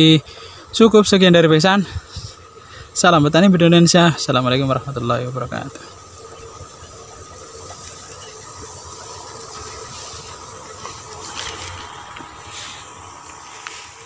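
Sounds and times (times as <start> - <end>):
faint steady hum: 0.0 - 14.0
sprayer nozzle hissing: 0.1 - 14.0.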